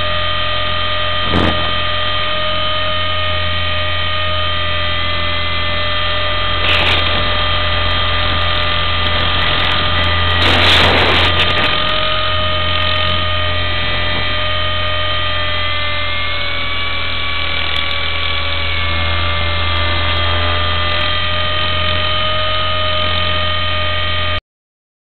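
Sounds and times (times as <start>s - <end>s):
low drone: 0.0s - 24.4s
rc helicopter rotor whine: 0.0s - 24.4s.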